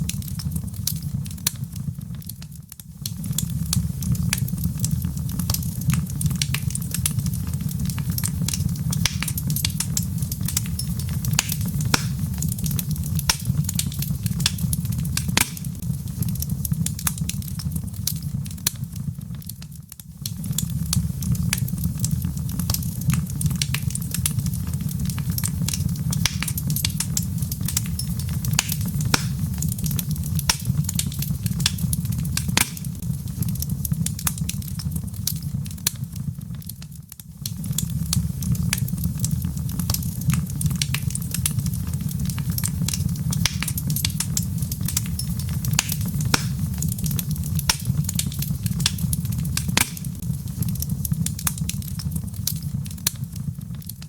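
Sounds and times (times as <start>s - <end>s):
log fire crackling: 0.0s - 54.0s.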